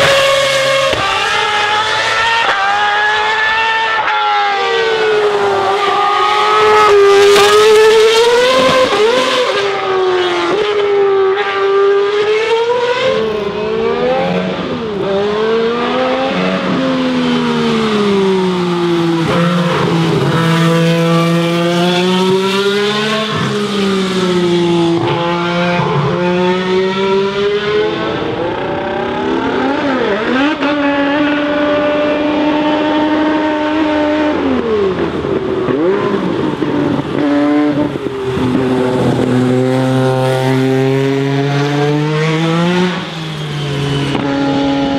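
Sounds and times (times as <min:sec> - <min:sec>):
race car engines at speed: 0:00.0 - 0:44.9.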